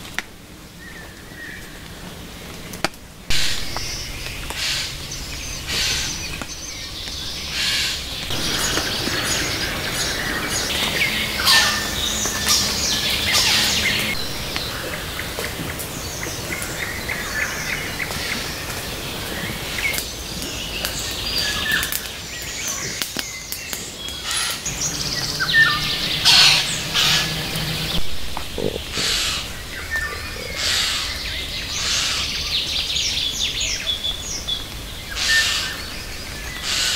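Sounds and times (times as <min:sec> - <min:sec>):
birds chirping and singing: 0:03.3 - 0:36.9
harsh bird calls: 0:03.3 - 0:36.9.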